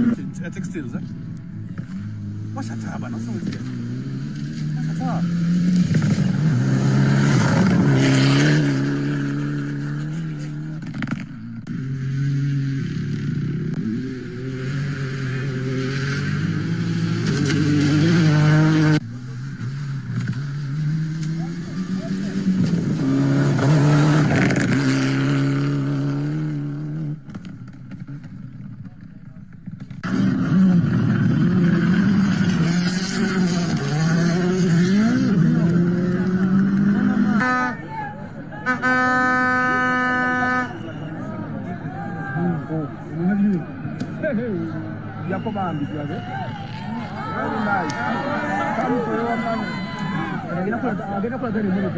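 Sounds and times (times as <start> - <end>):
rally car engines revving past: 0.0 - 51.9.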